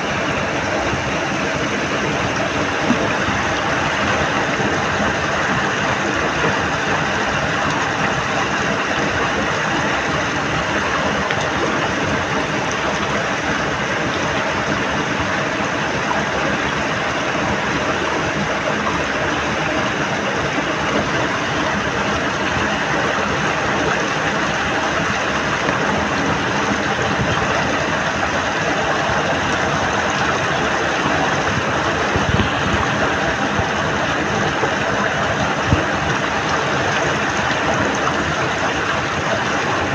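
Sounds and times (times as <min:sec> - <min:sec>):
muddy water rushing: 0:00.0 - 0:39.9
water splashes: 0:00.0 - 0:39.9.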